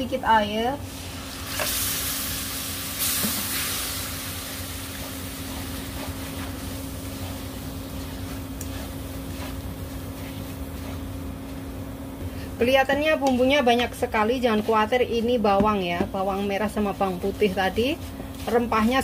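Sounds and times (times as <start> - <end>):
steady low hum: 0.0 - 19.0
spice paste sizzling in a wok: 0.4 - 12.1, 12.7 - 19.0.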